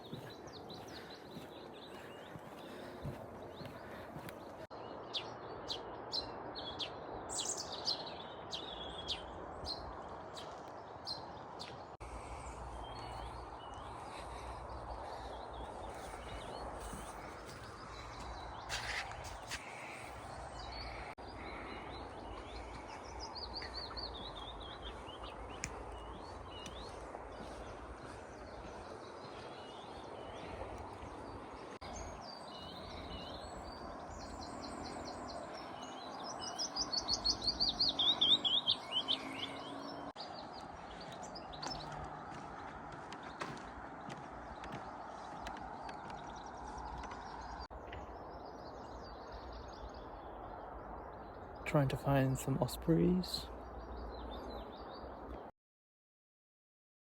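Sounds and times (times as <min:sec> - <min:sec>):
small birds chirping: 0:00.0 - 0:55.5.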